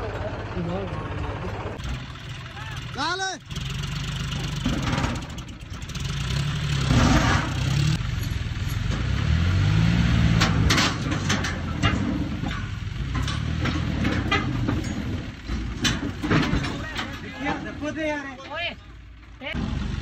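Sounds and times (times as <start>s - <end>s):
tractor diesel engine: 0.0s - 20.0s
metallic clanks and rattles: 0.8s - 9.3s, 10.2s - 19.6s.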